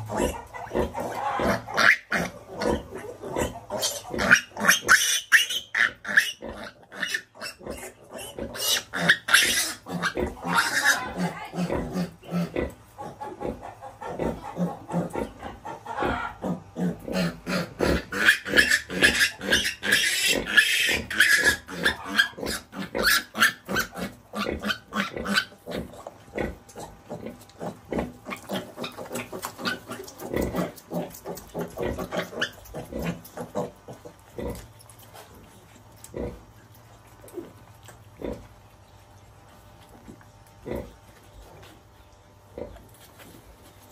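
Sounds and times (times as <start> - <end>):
piglets squealing and grunting: 0.0 - 38.6, 39.9 - 41.7.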